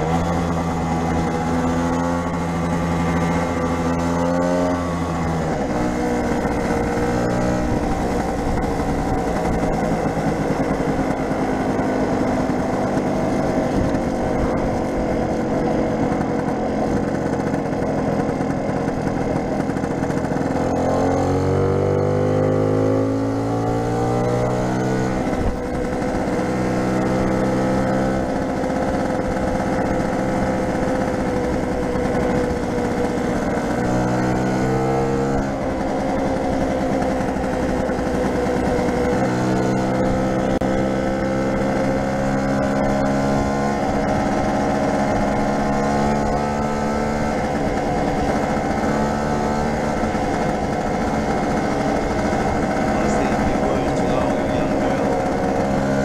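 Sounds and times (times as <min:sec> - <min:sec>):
scooter engine accelerating: 0:00.0 - 0:56.0.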